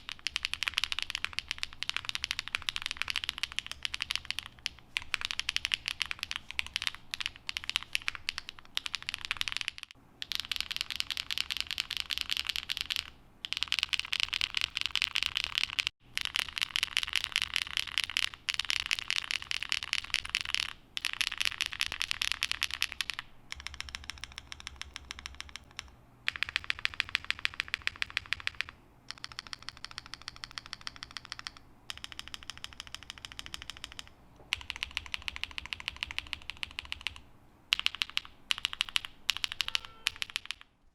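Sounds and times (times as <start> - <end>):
keyboard keystroke clacks: 0.0 - 40.7.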